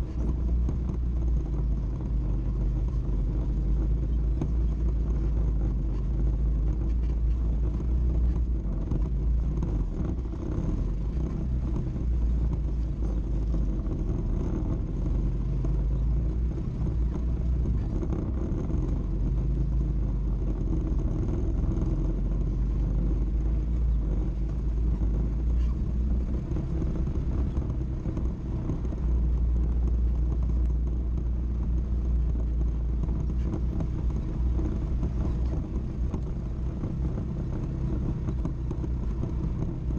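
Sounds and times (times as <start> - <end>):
quad bike engine rumbling: 0.0 - 39.9.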